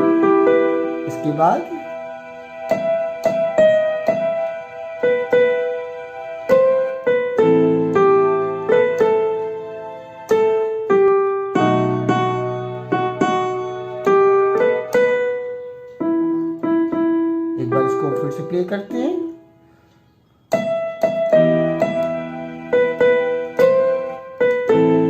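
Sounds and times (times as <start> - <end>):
electronic keyboard piano melody: 0.0 - 25.0.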